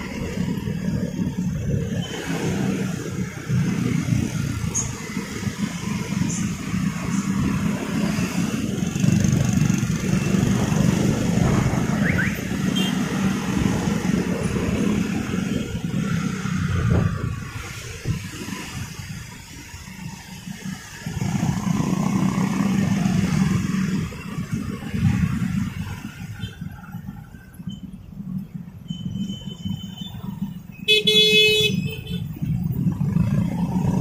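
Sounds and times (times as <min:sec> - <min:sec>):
motorcycle engine revving: 0:00.0 - 0:26.2, 0:32.3 - 0:34.0
scooter and car engines: 0:00.0 - 0:34.0.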